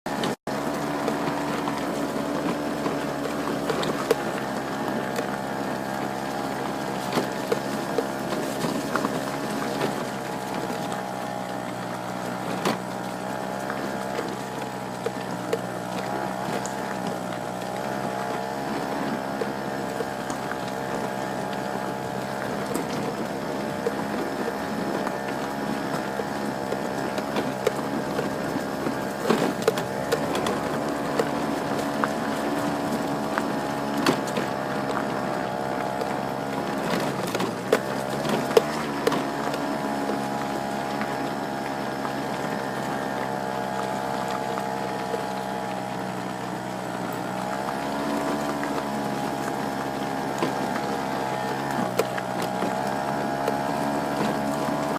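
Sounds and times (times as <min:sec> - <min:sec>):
small motors whining: 0:00.1 - 0:54.9.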